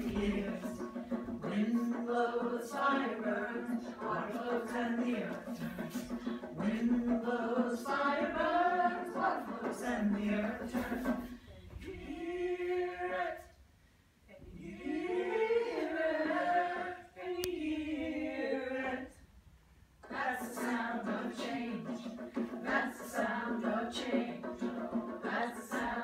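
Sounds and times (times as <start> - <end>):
women singing a cappella: 0.0 - 13.6, 14.3 - 19.3, 20.0 - 26.0.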